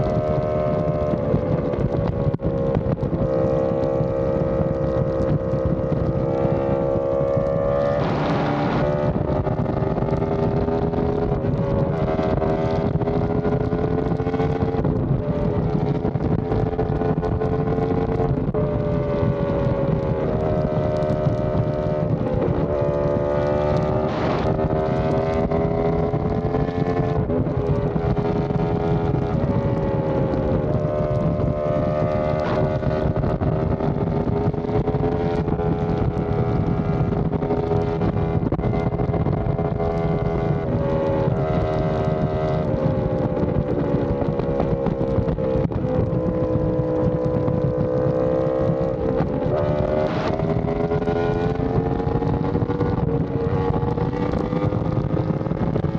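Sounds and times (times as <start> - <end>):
motorcycle engine cruising: 0.0 - 55.9
wind rushing past microphone: 0.0 - 55.9.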